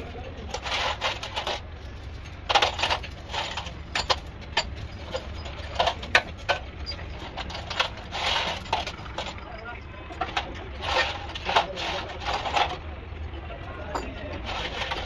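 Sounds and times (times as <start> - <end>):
hand tools clicking and knocking: 0.0 - 12.9, 13.7 - 15.0
metal parts being handled: 0.0 - 12.9, 13.7 - 15.0.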